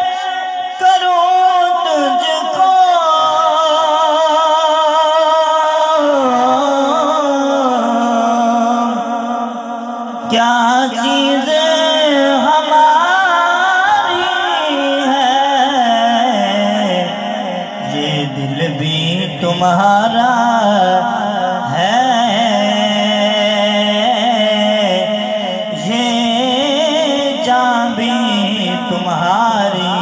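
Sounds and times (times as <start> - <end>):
man singing through sound system: 0.0 - 30.0.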